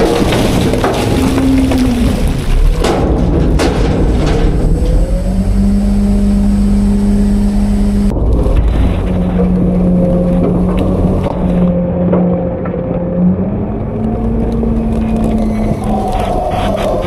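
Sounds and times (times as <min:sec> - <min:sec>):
hydraulic drone: 0:00.0 - 0:17.0
diesel engine at raised revs: 0:00.8 - 0:17.0.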